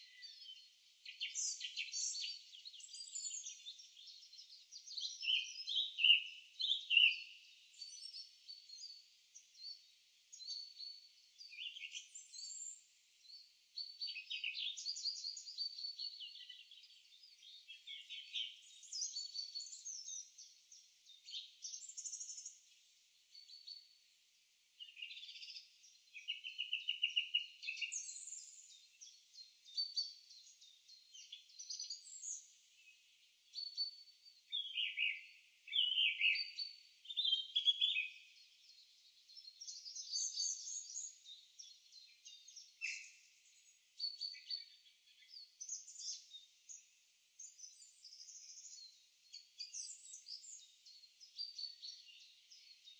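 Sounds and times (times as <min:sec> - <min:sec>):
songbirds singing and calling: 0:00.0 - 0:52.9.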